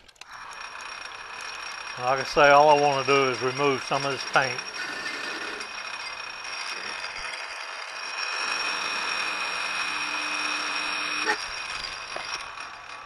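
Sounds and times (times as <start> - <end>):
lathe gear whine: 0.2 - 13.0
lathe tool cutting hiss: 0.5 - 13.0.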